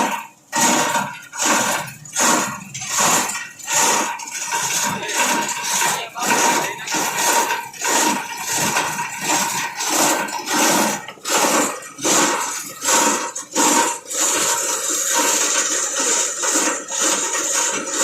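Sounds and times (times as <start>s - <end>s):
plastic grinder crunching: 0.0s - 18.0s.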